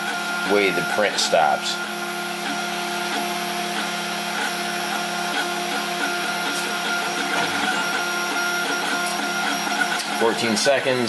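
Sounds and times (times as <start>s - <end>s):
printer motors and fans humming: 0.0s - 11.0s.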